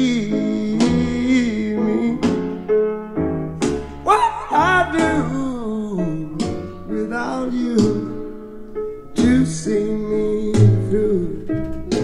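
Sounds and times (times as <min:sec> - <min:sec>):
person singing: 0:00.0 - 0:02.6, 0:03.7 - 0:08.3, 0:09.2 - 0:12.0.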